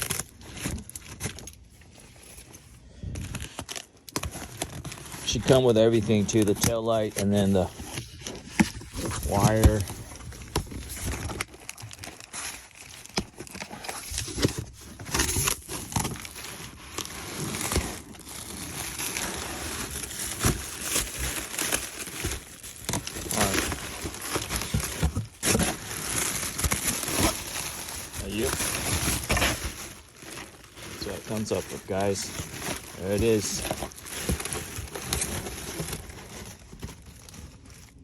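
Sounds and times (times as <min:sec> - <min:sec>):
packaging crinkling and rustling: 0:00.0 - 0:38.0.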